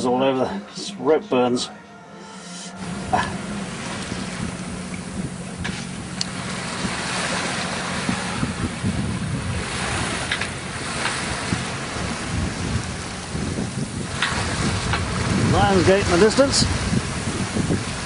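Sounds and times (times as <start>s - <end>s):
steady low hum: 0.0s - 15.5s
water rushing along hull: 0.0s - 18.0s
wind buffeting microphone: 2.8s - 18.0s.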